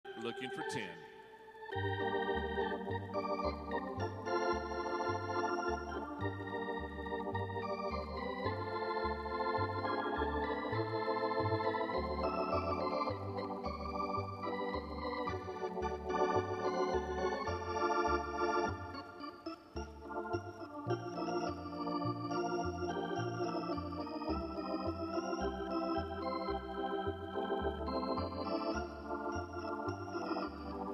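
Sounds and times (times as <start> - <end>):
upbeat organ music: 0.1 - 30.9.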